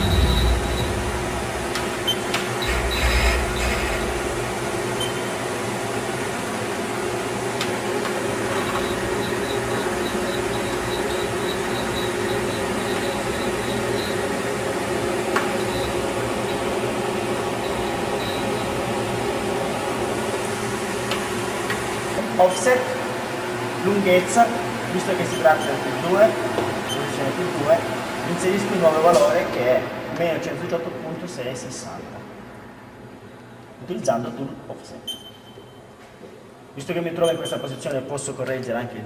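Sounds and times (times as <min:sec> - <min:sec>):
machine hum: 0:00.0 - 0:33.9.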